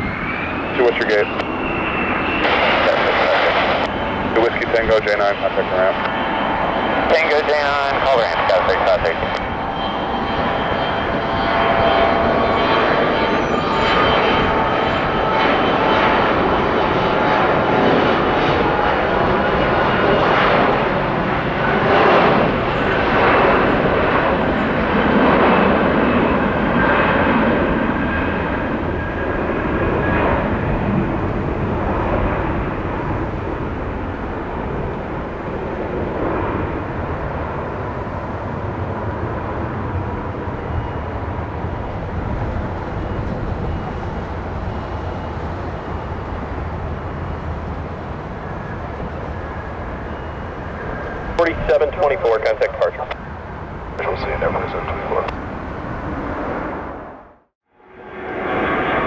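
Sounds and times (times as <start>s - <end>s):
jet airliner engines whining: 0.0s - 59.0s.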